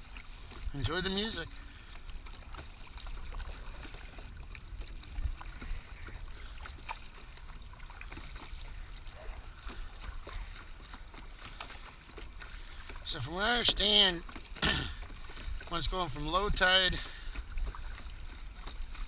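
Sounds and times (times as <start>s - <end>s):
paddle splashing in water: 0.0s - 19.0s.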